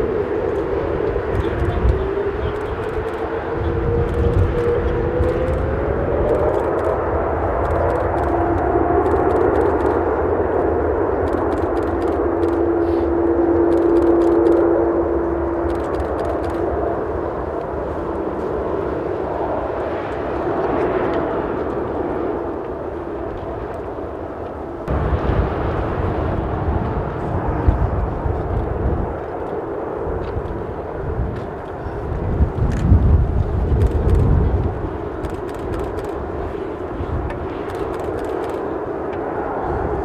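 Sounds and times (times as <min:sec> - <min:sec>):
jet engines at take-off: 0:00.0 - 0:40.0
wind rumble on microphone: 0:00.0 - 0:40.0.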